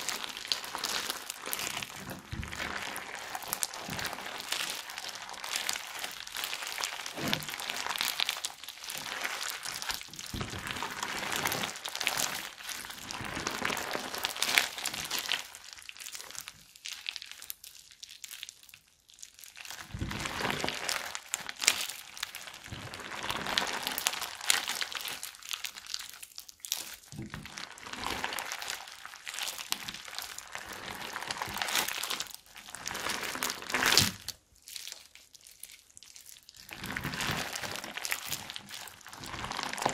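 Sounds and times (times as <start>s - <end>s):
crunchy slime being squeezed: 0.0s - 39.9s.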